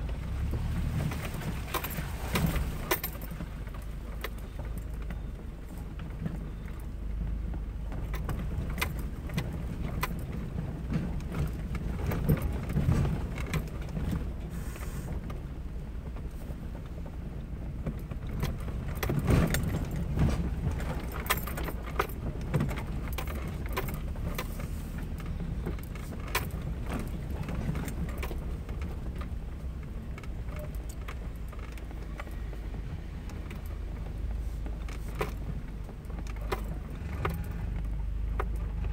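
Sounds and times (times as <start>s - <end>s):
engine and tyres rumbling: 0.0s - 38.9s
vehicle rattles and knocks: 0.0s - 38.9s.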